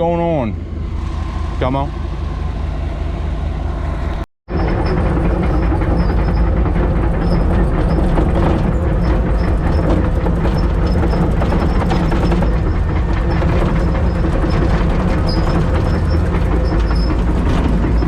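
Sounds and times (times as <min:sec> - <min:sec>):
diesel engine running: 0:00.0 - 0:18.0
steel track rattle: 0:00.0 - 0:18.0.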